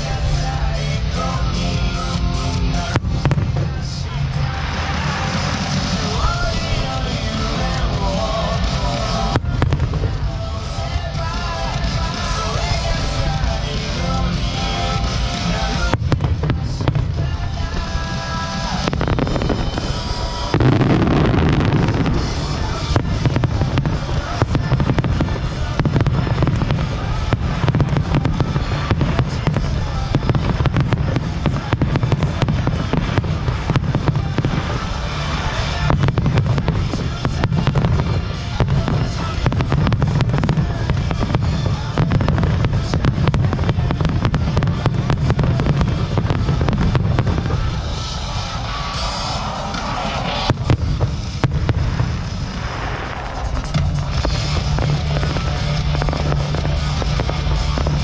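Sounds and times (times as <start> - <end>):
deep rumble: 0.0 - 58.0
fireworks bangs and crackles: 0.0 - 58.0
music playing: 0.0 - 58.0.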